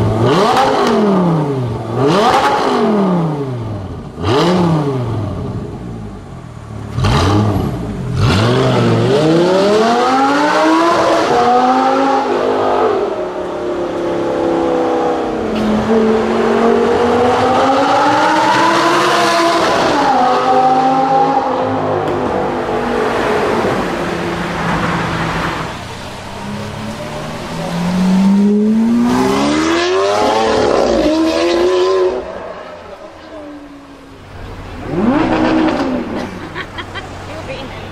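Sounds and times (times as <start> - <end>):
supercar engines revving: 0.0 - 37.9.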